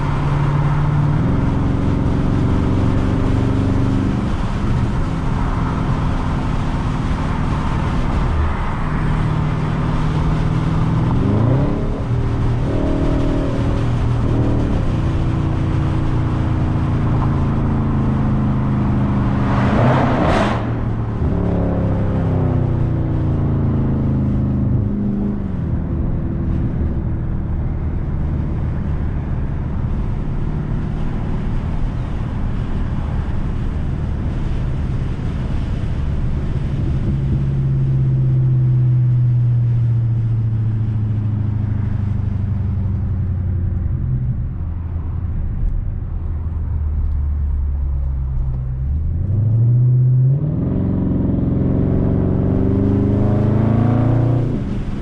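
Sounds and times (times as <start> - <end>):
car engine exhaust while driving: 0.0 - 55.0.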